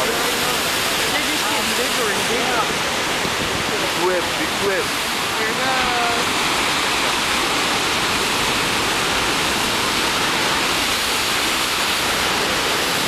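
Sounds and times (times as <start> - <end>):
ocean surf breaking on rocks: 0.0 - 13.0.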